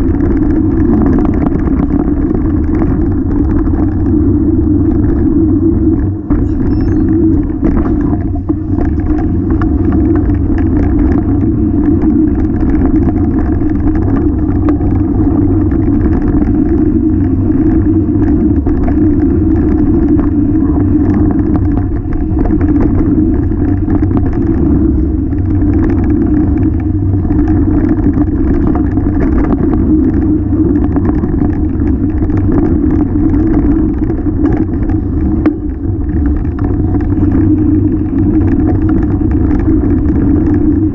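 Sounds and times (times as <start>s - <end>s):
mountain bike tyre roar: 0.0s - 40.9s.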